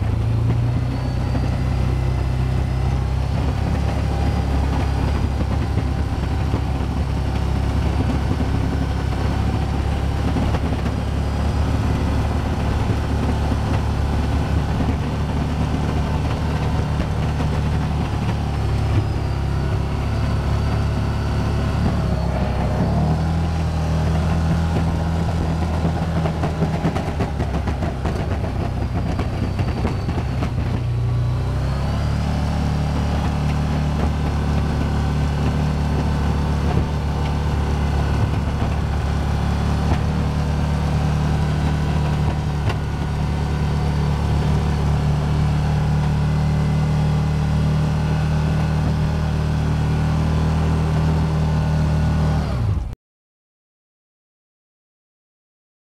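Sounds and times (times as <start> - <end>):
vehicle engine running under load: 0.0 - 53.0.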